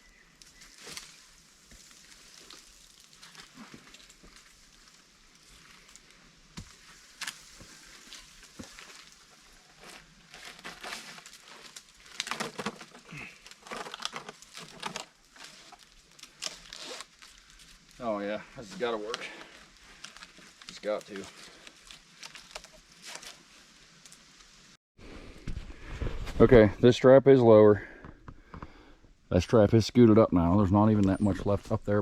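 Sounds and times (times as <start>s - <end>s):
rustling and scraping in tree: 0.0s - 26.9s.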